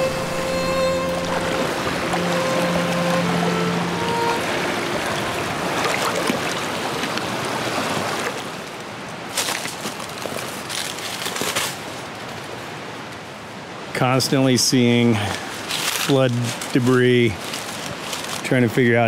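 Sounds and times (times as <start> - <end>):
creek water over rocks: 0.0 - 19.0.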